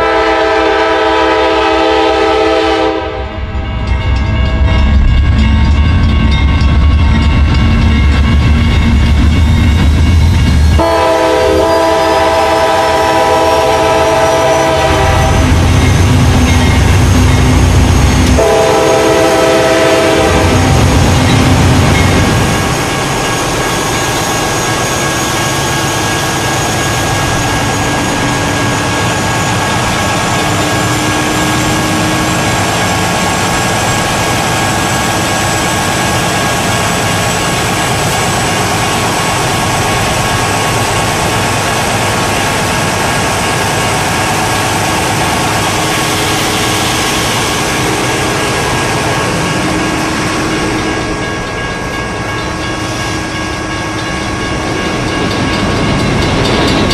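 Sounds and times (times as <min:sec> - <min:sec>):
diesel locomotive engine working hard: 0:00.0 - 0:56.9
locomotive wheels screeching on rail: 0:06.3 - 0:56.9.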